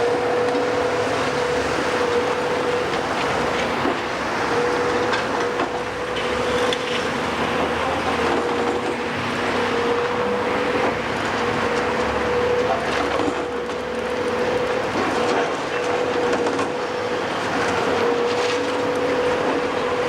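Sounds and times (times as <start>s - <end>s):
heavy machinery hydraulic whine: 0.0s - 20.0s.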